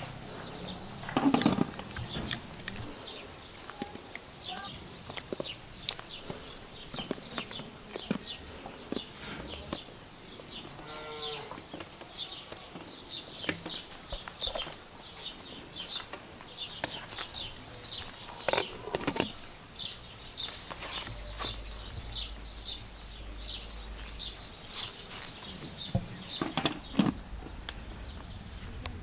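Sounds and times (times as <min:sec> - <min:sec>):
bird chirping: 0:00.0 - 0:29.0
faint high insect drone: 0:00.0 - 0:29.0.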